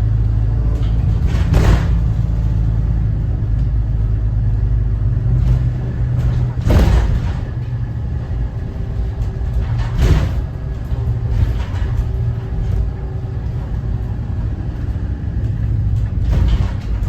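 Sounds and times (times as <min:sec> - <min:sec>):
bus body rattling: 0:00.0 - 0:17.0
bus diesel engine rumbling: 0:00.0 - 0:17.0.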